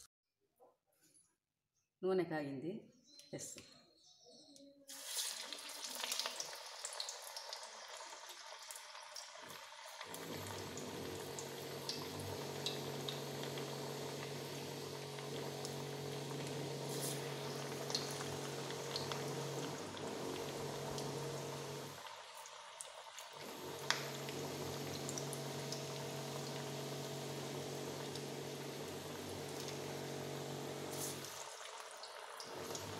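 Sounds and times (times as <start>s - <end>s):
batter deep-frying in hot oil: 4.9s - 32.9s.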